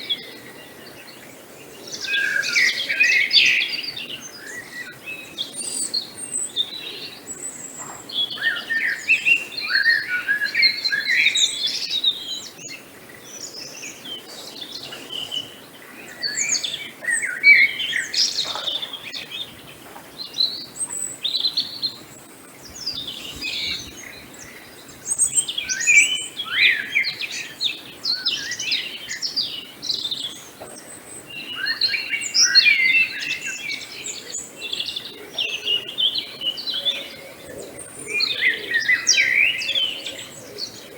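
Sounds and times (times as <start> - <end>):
faint outdoor hiss: 0.0 - 40.9
songbirds chirping and singing: 0.0 - 40.9.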